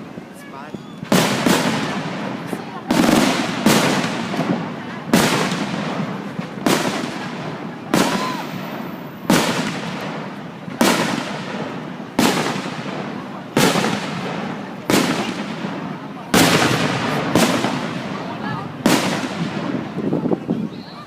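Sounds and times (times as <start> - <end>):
fireworks bursting: 0.0 - 21.0
rumble after fireworks: 0.0 - 21.0.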